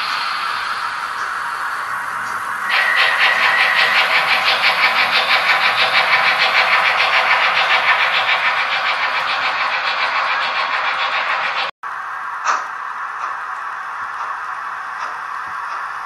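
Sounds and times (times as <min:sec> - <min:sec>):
steam locomotive chuffing: 0:00.0 - 0:11.8, 0:12.4 - 0:16.0.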